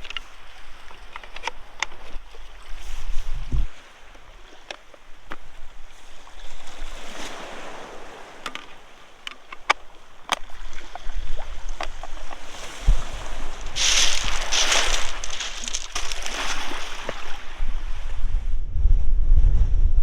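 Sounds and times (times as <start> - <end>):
sea waves breaking: 0.0 - 18.2.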